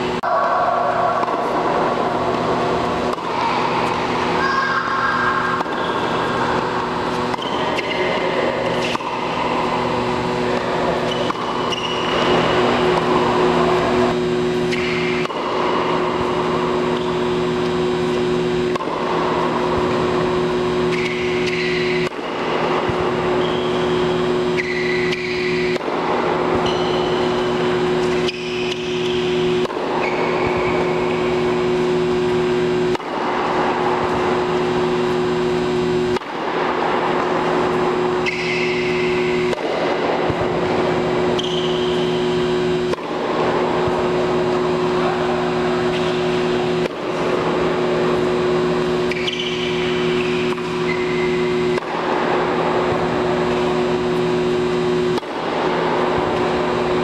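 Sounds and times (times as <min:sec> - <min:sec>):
ventilation blowers droning: 0:00.0 - 0:57.0.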